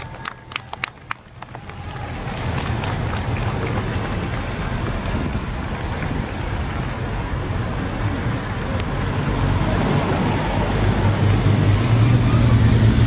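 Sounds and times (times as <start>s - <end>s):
motorcycle engines approaching: 0.0s - 13.0s
police car driving past: 0.2s - 13.0s.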